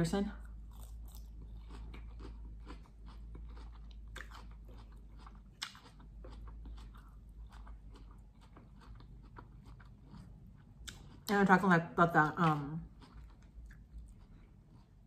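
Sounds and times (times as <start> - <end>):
chewing crunchy food: 0.4 - 15.0.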